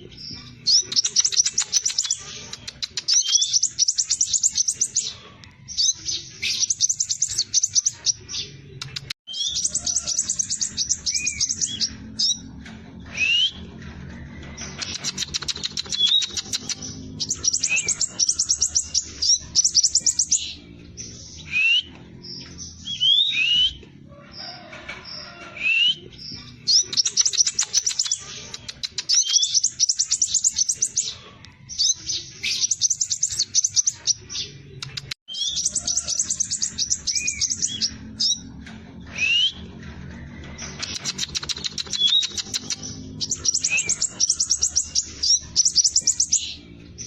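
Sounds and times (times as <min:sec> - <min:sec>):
bird singing trills: 0:00.0 - 0:47.0.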